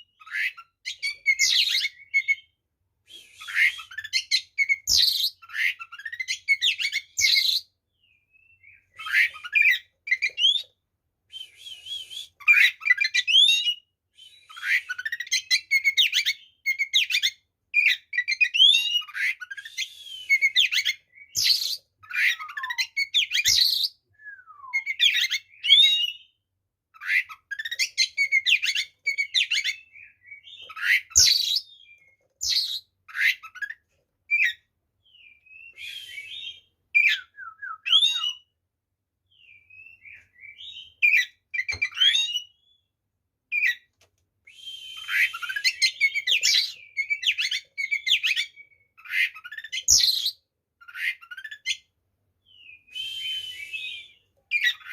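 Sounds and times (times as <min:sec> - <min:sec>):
magpie-robin singing: 0:00.0 - 0:02.6, 0:03.4 - 0:10.8, 0:12.3 - 0:38.5, 0:39.3 - 0:42.9, 0:43.5 - 0:43.9, 0:45.0 - 0:54.9.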